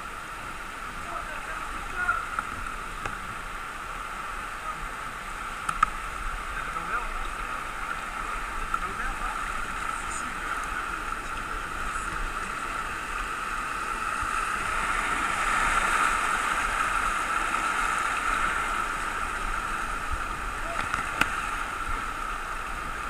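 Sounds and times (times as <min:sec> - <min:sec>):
whitewater rushing through rapids: 0:00.0 - 0:23.0.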